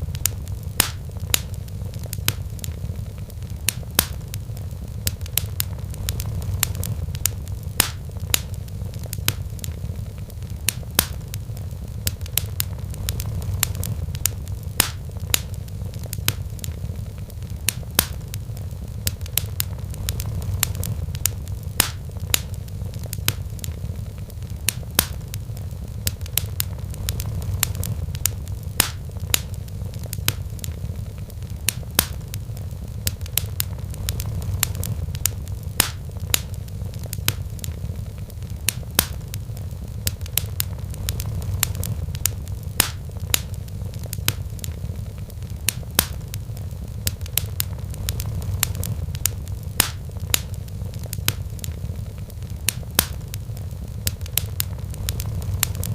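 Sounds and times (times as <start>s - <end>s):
low rumble: 0.0s - 55.9s
wood fire crackling: 0.0s - 55.9s.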